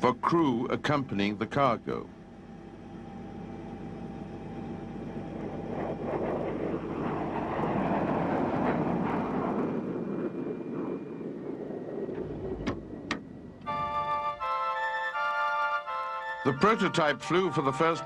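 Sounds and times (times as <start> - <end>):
large aircraft passing: 0.0 - 18.0.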